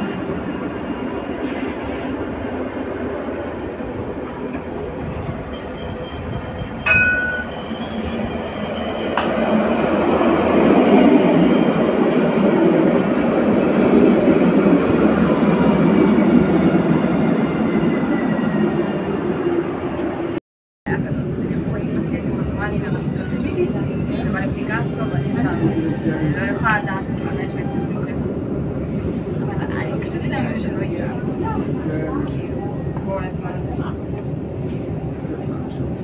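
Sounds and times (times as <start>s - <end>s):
train rolling on tracks: 0.0s - 36.0s.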